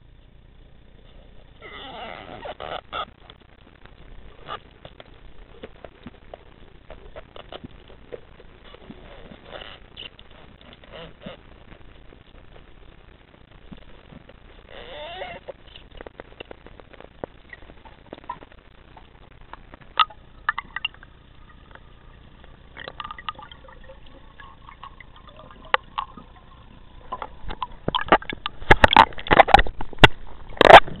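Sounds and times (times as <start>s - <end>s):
water gurgling and sloshing: 0.8s - 31.0s
faint underwater clicks and knocks: 2.6s - 31.0s.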